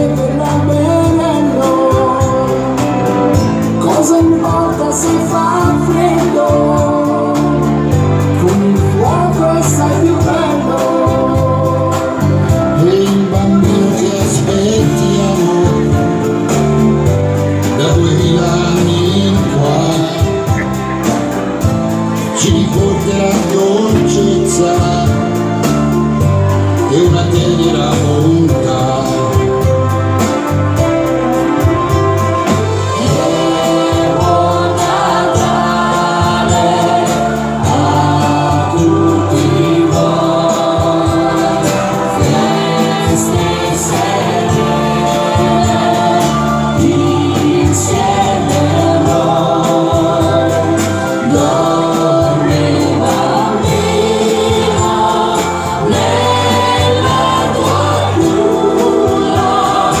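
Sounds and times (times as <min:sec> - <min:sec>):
choir-like voices: 0:00.0 - 0:25.9, 0:32.4 - 1:00.0
keyboard chords: 0:00.0 - 1:00.0
steady drum beat: 0:00.0 - 1:00.0.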